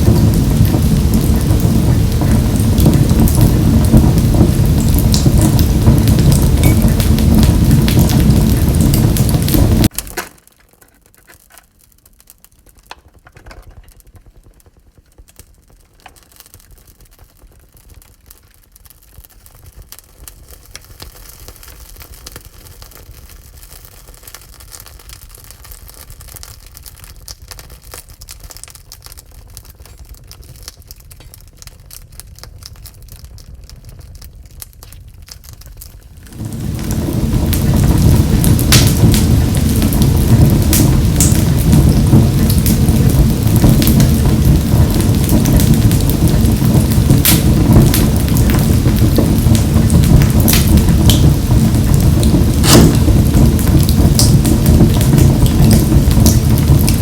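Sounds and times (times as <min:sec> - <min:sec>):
wood fire crackling in stove: 0:00.0 - 0:57.0.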